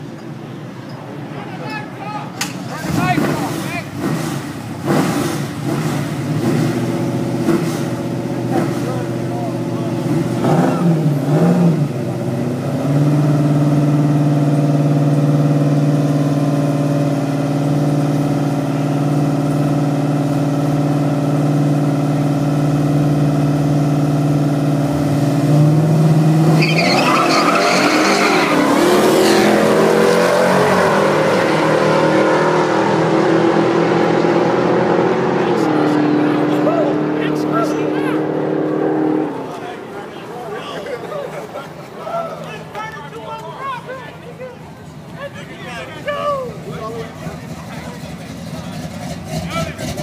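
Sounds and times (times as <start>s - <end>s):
car engine revving and accelerating: 2.7s - 39.9s, 47.1s - 50.0s.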